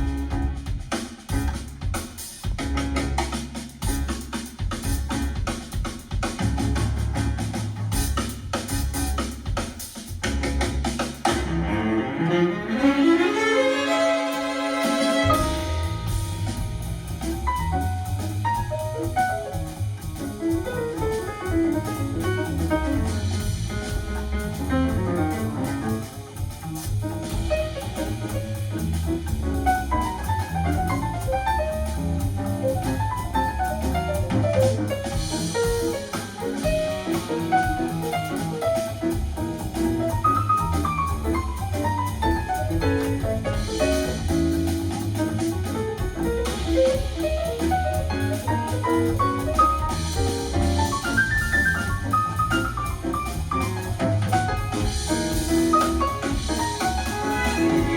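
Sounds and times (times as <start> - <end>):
jazz band with drums and bass: 0.0 - 57.9.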